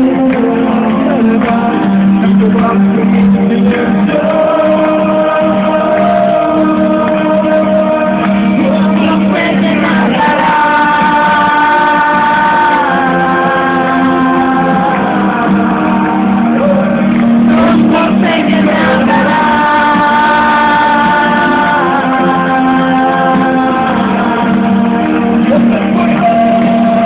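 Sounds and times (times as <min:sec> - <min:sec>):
live band music: 0:00.0 - 0:27.0
person singing sustained notes: 0:00.0 - 0:27.0.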